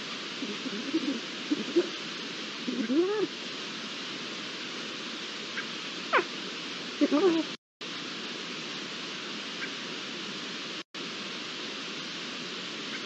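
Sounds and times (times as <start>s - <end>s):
microphone hiss: 0.0s - 13.0s.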